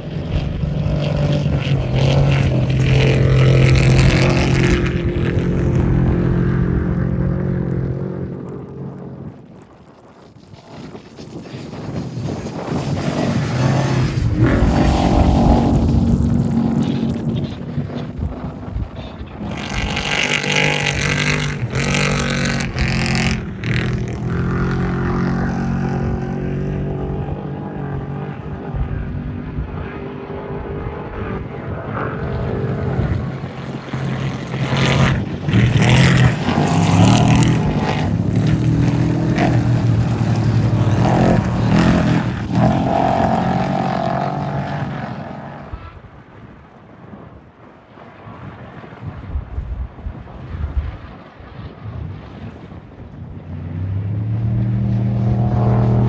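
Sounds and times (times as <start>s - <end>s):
race vehicle engines revving: 0.0s - 9.1s, 12.5s - 46.0s, 53.3s - 56.0s.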